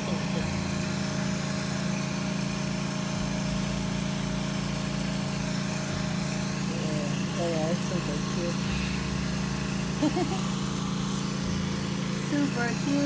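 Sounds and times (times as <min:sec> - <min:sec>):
motorised machine droning: 0:00.0 - 0:13.0.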